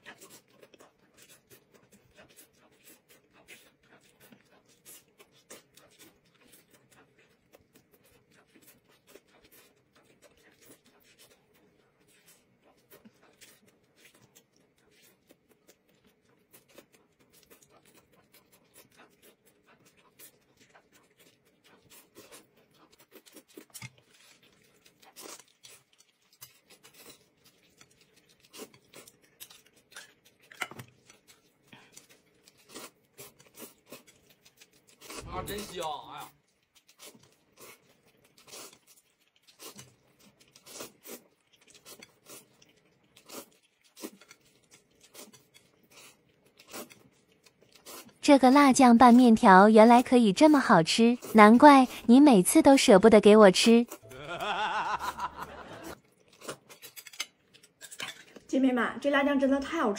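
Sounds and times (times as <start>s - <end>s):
wet chewing clicks and smacks: 0.0s - 48.3s, 55.3s - 58.5s.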